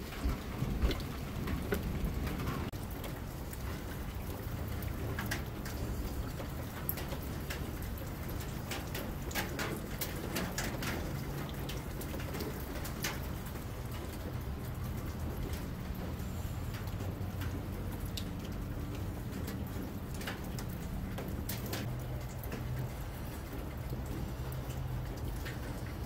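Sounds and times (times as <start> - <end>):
oil pouring with gurgles: 0.0 - 26.0.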